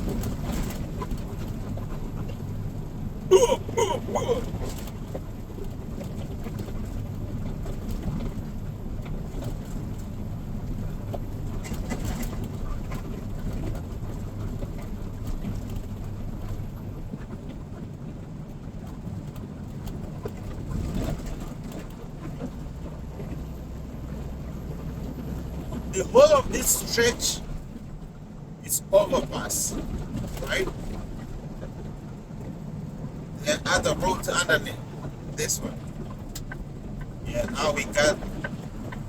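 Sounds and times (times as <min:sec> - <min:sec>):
truck engine drone: 0:00.0 - 0:17.5, 0:22.4 - 0:39.0
road noise: 0:00.0 - 0:39.0.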